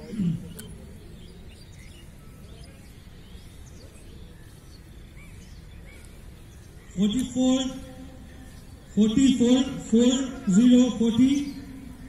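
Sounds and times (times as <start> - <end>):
bird chirps: 0.0 - 12.0
open-air background noise: 0.0 - 12.0.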